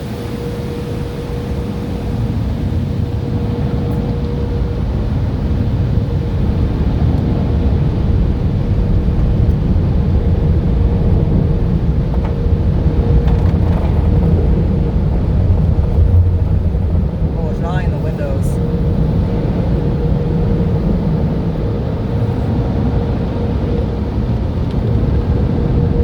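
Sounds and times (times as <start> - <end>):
car wash machinery rushing: 0.0 - 26.0
mid-pitched hum: 0.0 - 26.0.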